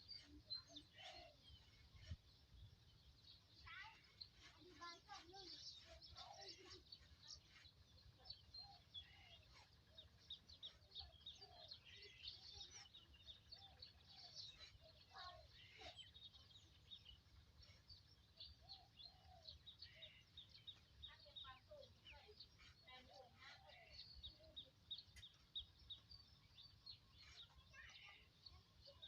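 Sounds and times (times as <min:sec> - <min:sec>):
faint birds chirping: 0:00.0 - 0:29.0.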